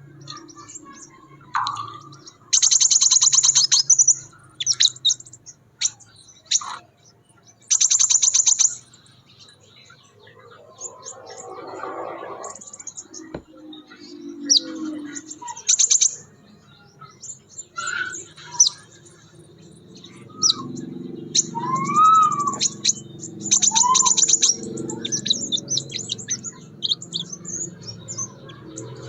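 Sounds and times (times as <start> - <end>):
bird chirping and trilling: 0.0 - 29.0.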